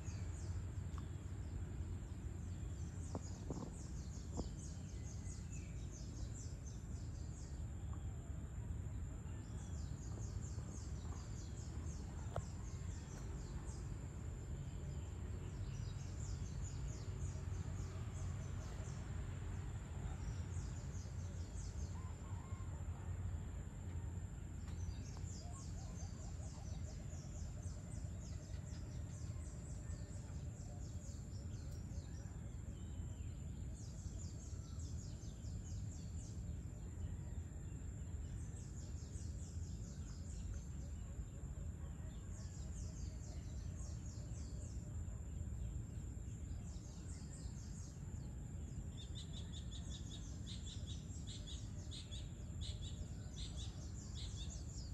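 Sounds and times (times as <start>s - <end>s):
low steady rumble: 0.0s - 54.9s.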